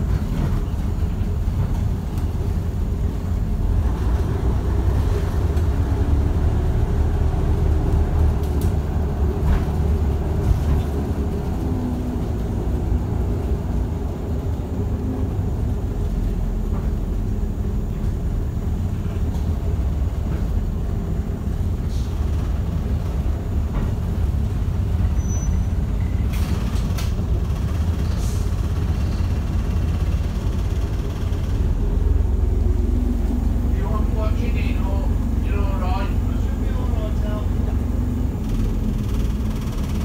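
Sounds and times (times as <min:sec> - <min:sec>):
bus diesel engine rumbling: 0:00.0 - 0:40.0.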